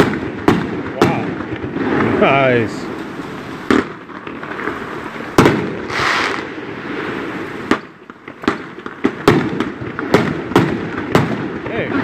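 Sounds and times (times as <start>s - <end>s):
firework hiss: 0.0s - 12.0s
fireworks bangs: 0.0s - 12.0s.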